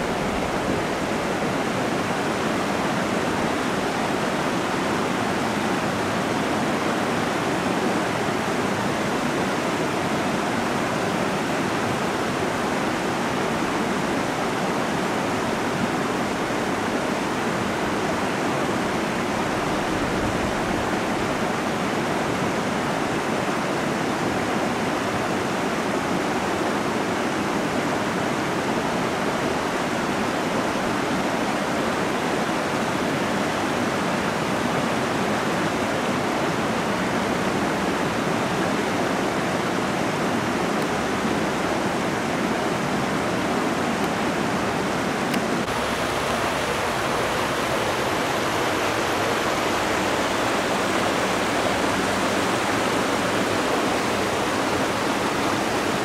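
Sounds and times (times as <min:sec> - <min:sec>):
stream babbling over rocks: 0:00.0 - 0:56.0.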